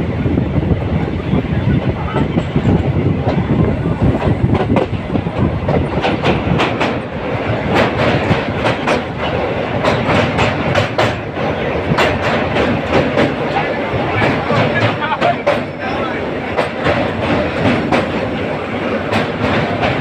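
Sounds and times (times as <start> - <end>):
train wheels clickety-clack on rails: 0.0 - 20.0.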